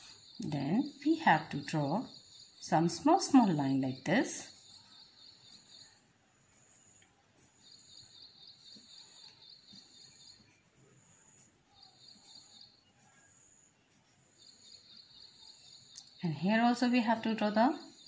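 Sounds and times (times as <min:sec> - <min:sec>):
faint high insect trill: 0:00.0 - 0:18.0.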